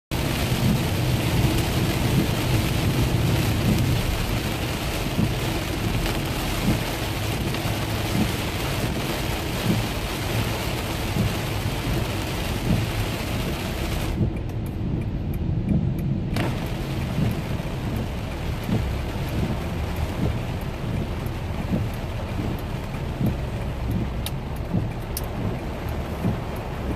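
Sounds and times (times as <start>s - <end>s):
heavy rain on car: 0.1s - 26.9s
low rumble: 0.1s - 26.9s.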